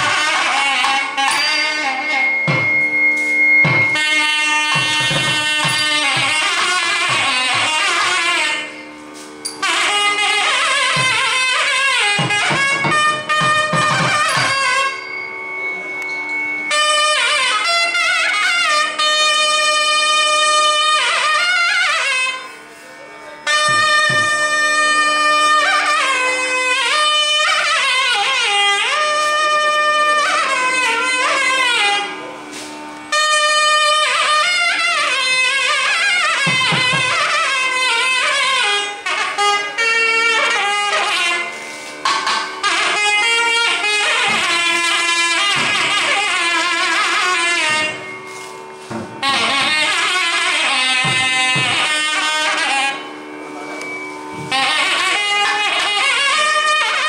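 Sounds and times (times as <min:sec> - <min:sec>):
nadaswaram melody: 0:00.0 - 0:57.0
steady drone: 0:00.0 - 0:57.0.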